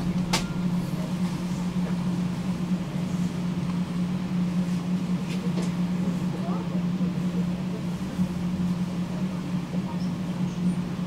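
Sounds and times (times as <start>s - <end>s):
tram interior hum: 0.0s - 11.0s.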